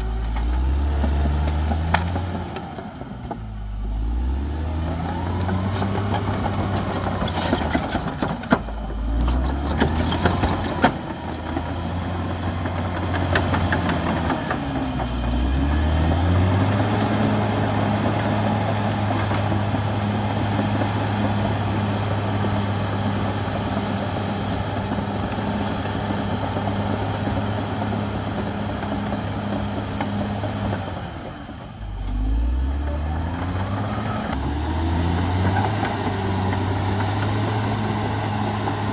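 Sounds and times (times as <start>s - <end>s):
bulldozer diesel engine revving: 0.0s - 38.9s.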